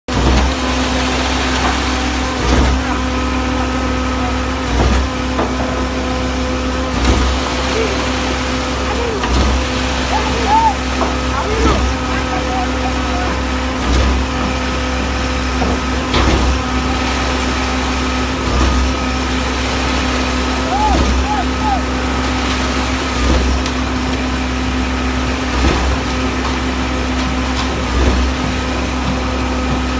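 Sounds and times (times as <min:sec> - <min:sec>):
diesel engine running under load: 0:00.1 - 0:29.9
pump strokes pulsing: 0:00.1 - 0:29.9.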